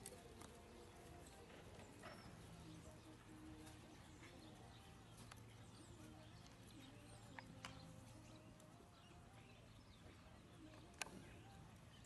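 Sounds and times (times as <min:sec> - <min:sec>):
horse hooves on grass: 0:00.0 - 0:12.0.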